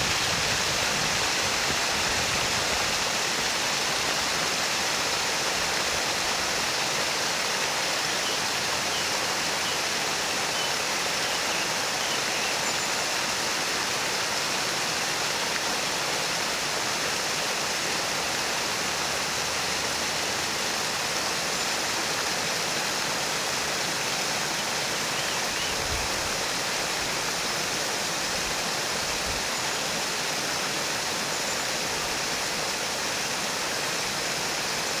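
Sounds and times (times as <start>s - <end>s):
water splashing down stone cascade: 0.0s - 35.0s.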